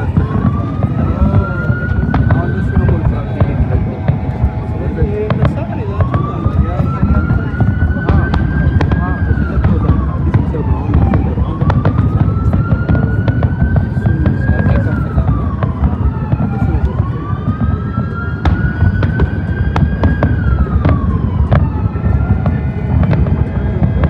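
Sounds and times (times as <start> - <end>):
fireworks bursting: 0.0 - 24.0
sharp crackles: 0.0 - 24.0
siren wailing: 0.0 - 24.0.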